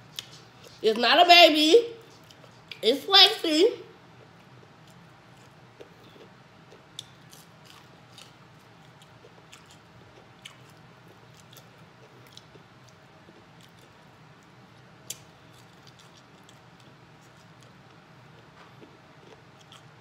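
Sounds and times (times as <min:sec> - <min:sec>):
chewing fried chicken: 0:02.0 - 0:02.8, 0:04.1 - 0:20.0.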